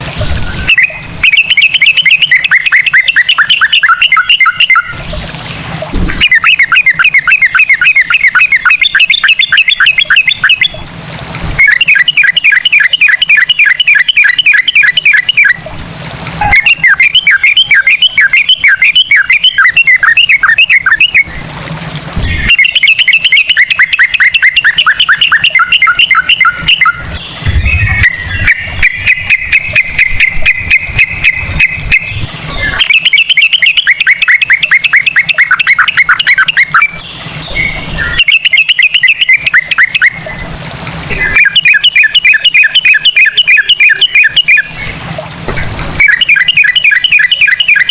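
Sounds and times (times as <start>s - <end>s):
bird singing whistled notes: 0.3s - 5.1s, 6.1s - 10.8s, 11.4s - 15.6s, 16.4s - 40.2s, 41.1s - 44.8s, 45.9s - 47.9s.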